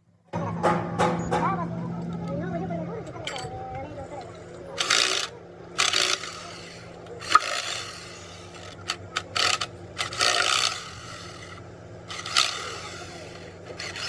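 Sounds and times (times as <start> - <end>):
steady low hum: 0.3 - 14.0.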